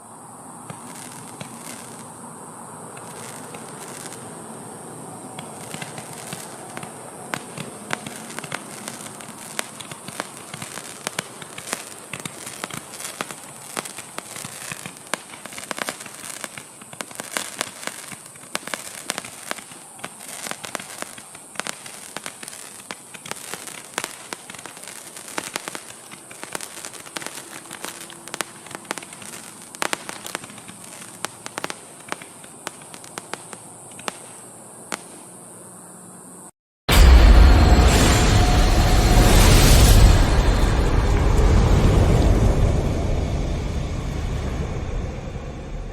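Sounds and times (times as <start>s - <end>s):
firework crackling pops: 0.6s - 2.2s, 2.9s - 35.4s, 36.9s - 44.7s
firework high hiss: 0.7s - 2.3s, 3.0s - 4.6s, 5.4s - 35.3s, 36.9s - 45.9s.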